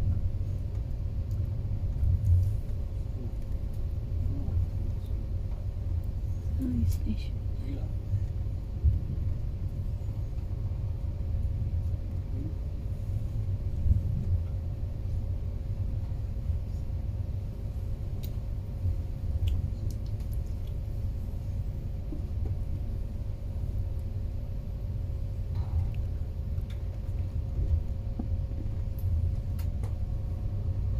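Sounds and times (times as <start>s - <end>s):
faint constant hum: 0.0s - 30.9s
train low rumble: 0.0s - 30.9s.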